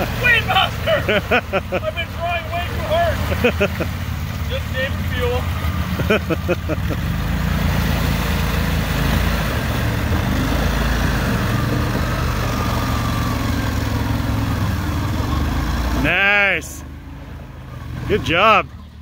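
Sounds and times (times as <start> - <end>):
water and mud sloshing: 0.0 - 16.2
vehicle engine at low revs: 0.0 - 19.0.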